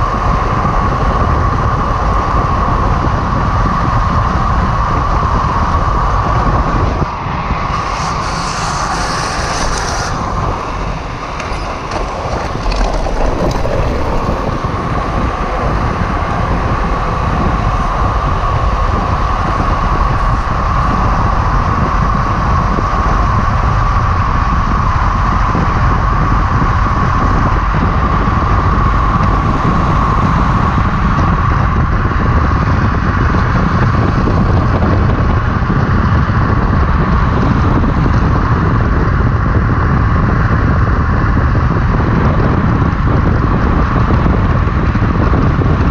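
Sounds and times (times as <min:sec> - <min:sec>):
steady high whine: 0:00.0 - 0:45.9
wheels rolling on asphalt: 0:00.0 - 0:45.9
wind buffeting microphone: 0:00.0 - 0:45.9.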